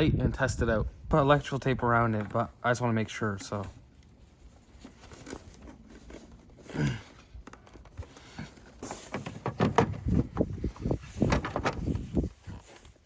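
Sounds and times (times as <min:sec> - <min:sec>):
rustling handling noise: 0:01.2 - 0:13.0.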